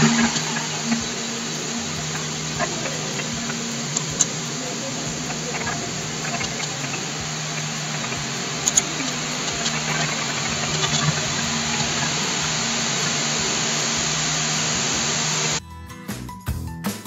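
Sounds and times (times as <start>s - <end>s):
microphone hiss and hum: 0.0s - 15.6s.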